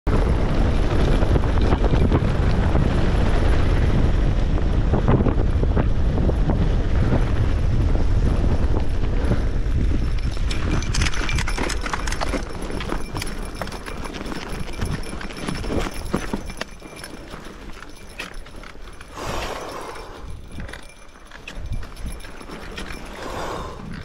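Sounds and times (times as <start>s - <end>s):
bike rattling and knocking: 0.1s - 24.0s
tyres on loose dirt and gravel: 0.1s - 24.0s
wind rushing over microphone: 0.1s - 24.0s.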